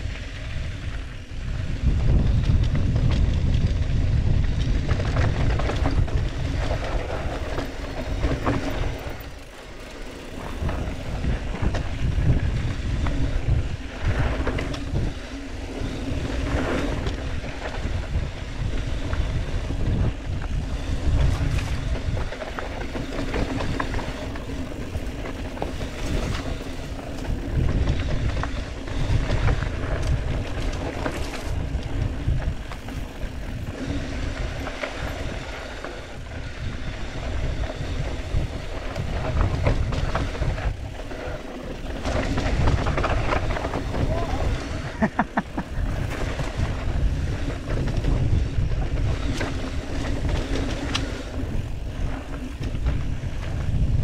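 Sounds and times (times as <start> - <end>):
bike rumbling and rattling: 0.0 - 54.0
wind buffeting microphone: 0.0 - 54.0.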